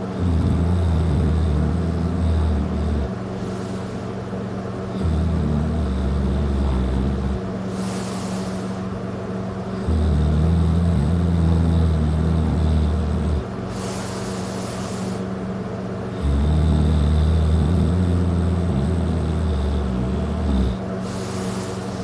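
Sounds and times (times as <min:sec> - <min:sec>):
person snoring loudly: 0:00.0 - 0:03.6, 0:04.9 - 0:08.7, 0:09.7 - 0:15.3, 0:16.1 - 0:21.9
breathy hiss of air: 0:00.0 - 0:22.0.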